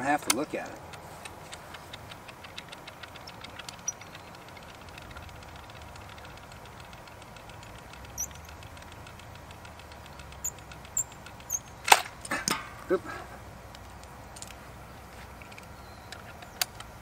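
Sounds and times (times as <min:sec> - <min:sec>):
crossbow clicks and knocks: 0:00.2 - 0:12.9, 0:13.6 - 0:17.0.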